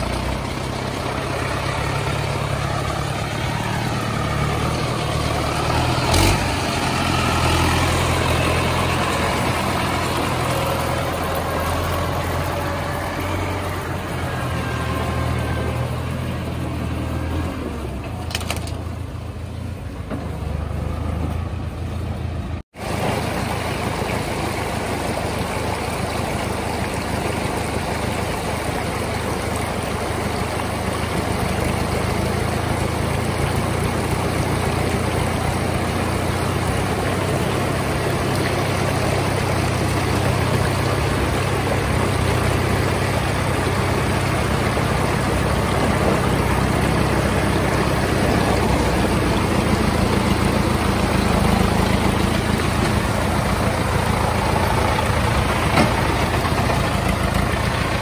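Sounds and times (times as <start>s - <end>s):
rocky stream rushing: 0.0s - 58.0s
tractor diesel engine running: 0.0s - 58.0s.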